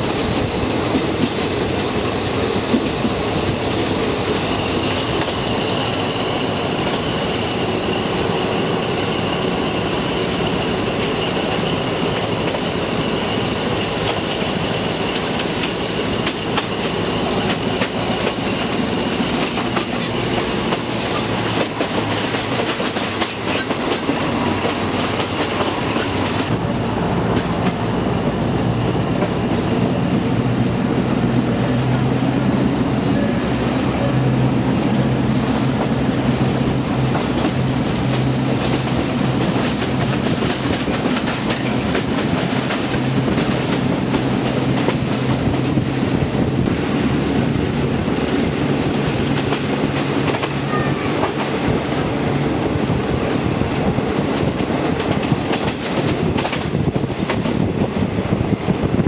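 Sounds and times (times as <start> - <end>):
train carriage rumble: 0.0 - 59.0.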